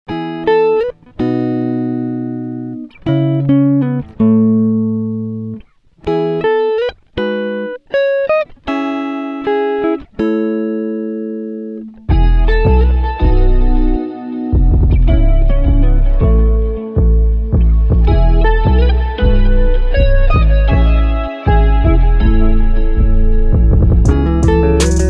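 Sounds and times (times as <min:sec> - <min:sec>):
solo guitar playing: 0:00.1 - 0:25.0.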